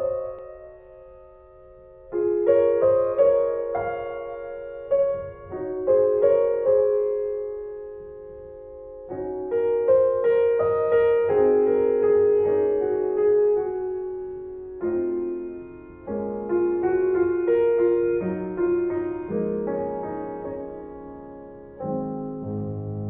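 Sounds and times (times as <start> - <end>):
gentle solo piano: 0.0 - 23.0.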